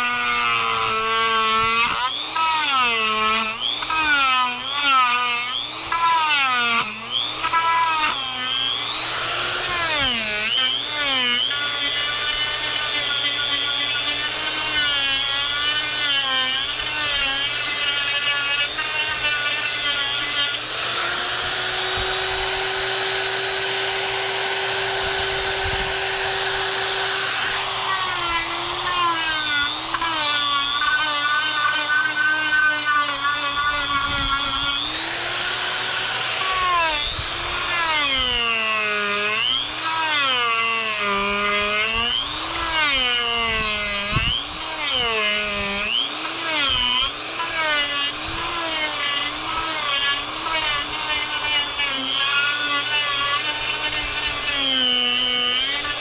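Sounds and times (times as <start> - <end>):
die grinder motor whine: 0.0 - 56.0.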